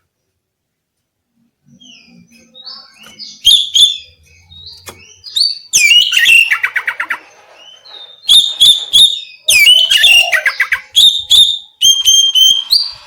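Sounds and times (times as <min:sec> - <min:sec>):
bird singing whistled notes: 0:01.7 - 0:13.0.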